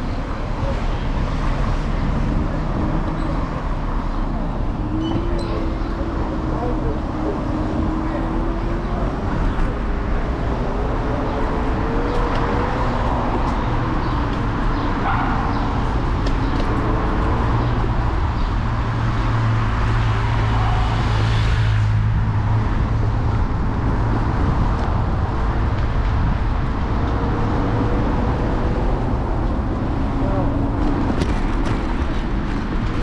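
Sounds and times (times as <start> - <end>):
city street traffic: 0.0 - 33.0
road noise: 0.0 - 33.0
rushing vehicle: 0.0 - 33.0.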